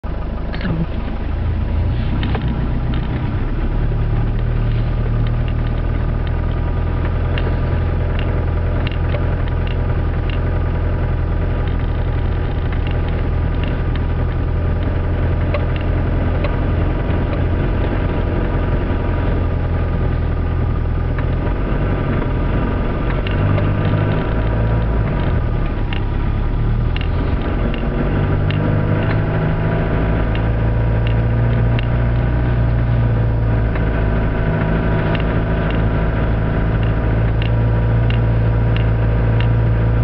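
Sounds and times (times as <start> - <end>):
diesel engine drone in cabin: 0.0 - 40.0.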